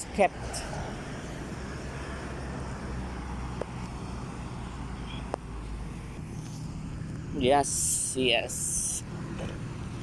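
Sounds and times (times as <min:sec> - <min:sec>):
road traffic engine rumble: 0:00.0 - 0:10.0.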